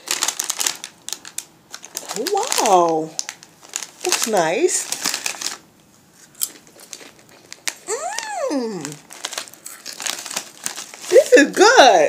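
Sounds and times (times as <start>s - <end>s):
chip bag crinkling: 0.0s - 12.0s.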